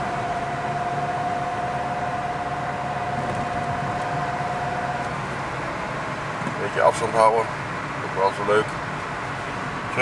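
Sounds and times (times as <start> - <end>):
road and engine noise in car: 0.0 - 10.0
steady high whine: 0.0 - 10.0.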